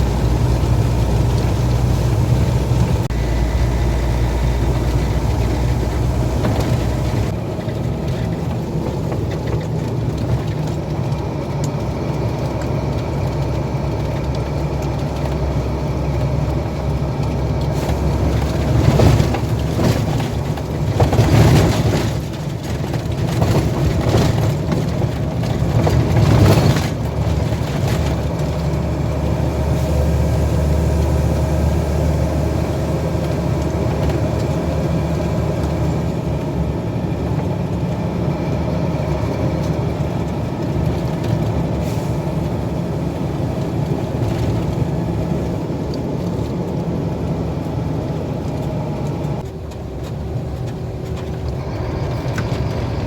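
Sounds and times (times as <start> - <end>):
heavy truck engine driving: 0.0 - 53.0.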